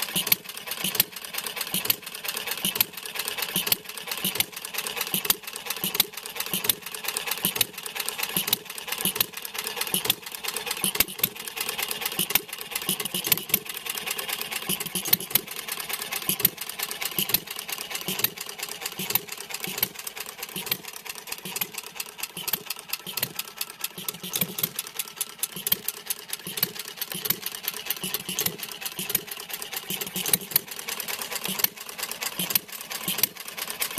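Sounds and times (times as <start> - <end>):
engine firing stroke: 0.0 - 33.9
engine mechanical clatter: 0.0 - 33.9.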